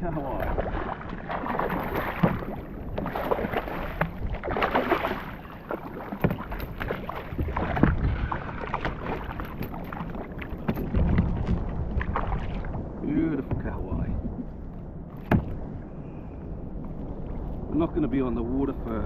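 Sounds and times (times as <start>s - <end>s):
water splashing around a kayak: 0.0s - 19.0s
wind buffeting microphone: 0.0s - 19.0s.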